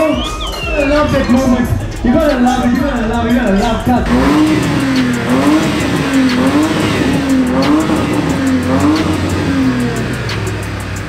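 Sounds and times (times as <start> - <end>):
car engine revving hard: 0.8 - 11.0.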